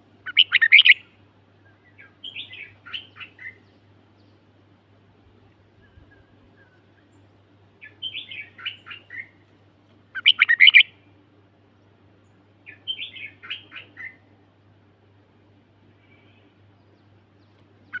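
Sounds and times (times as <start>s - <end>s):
songbird singing: 0.0s - 18.0s.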